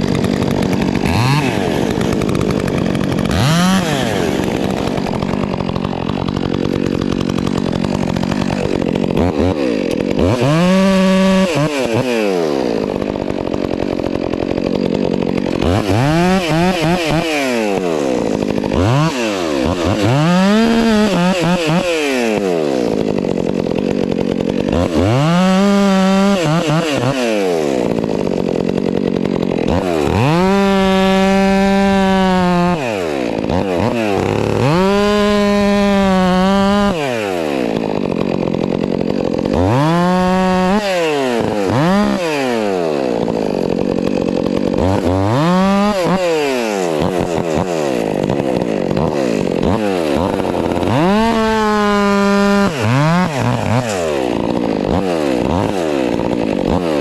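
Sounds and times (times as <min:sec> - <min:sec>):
chainsaw revving while cutting wood: 0:00.0 - 0:57.0.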